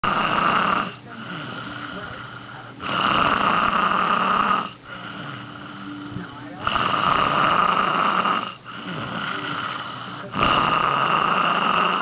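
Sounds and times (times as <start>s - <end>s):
quiet breaths: 0.0s - 12.0s
woman snoring: 0.0s - 12.0s.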